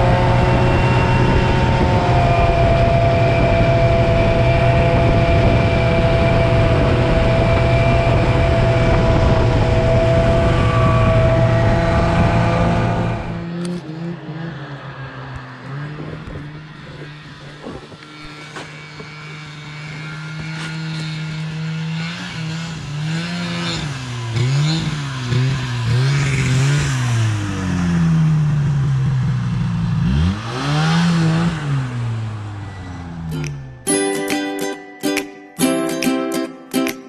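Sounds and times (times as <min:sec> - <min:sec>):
snowmobile engine revving: 0:00.0 - 0:33.6.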